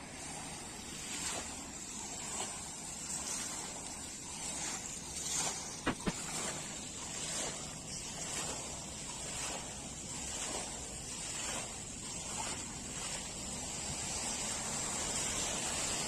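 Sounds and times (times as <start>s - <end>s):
water fountain splashing: 0.0s - 16.0s.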